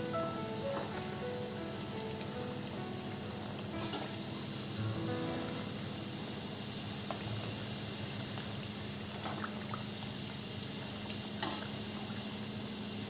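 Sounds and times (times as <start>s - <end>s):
deep-frying oil sizzling: 0.0s - 13.0s.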